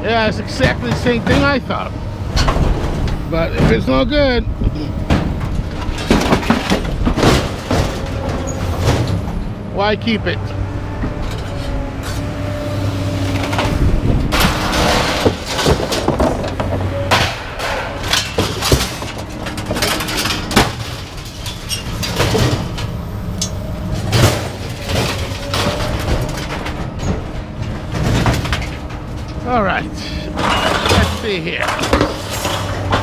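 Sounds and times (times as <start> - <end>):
scrap metal clanking: 0.3 - 9.5, 11.0 - 12.4, 13.2 - 33.0.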